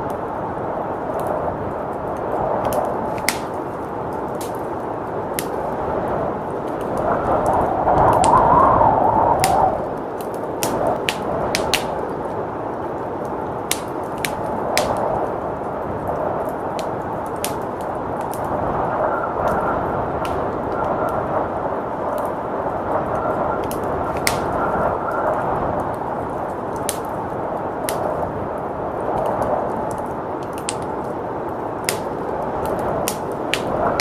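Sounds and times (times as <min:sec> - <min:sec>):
blizzard wind rushing: 0:00.0 - 0:34.0
fireplace crackling and popping: 0:00.0 - 0:34.0.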